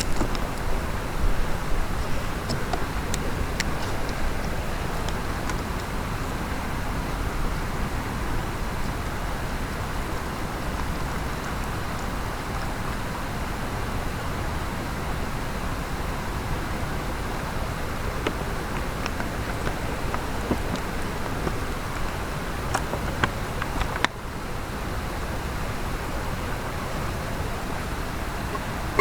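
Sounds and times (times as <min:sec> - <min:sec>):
stream water rushing over rocks: 0:00.0 - 0:29.0.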